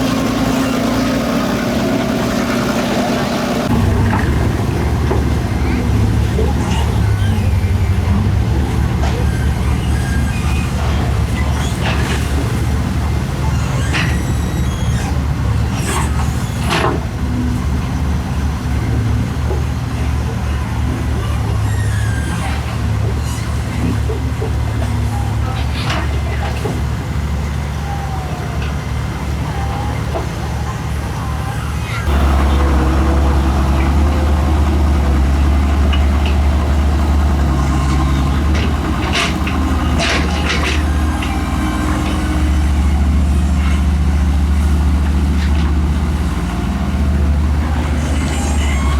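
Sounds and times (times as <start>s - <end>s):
excavator diesel engine rumbling: 0.0s - 48.9s.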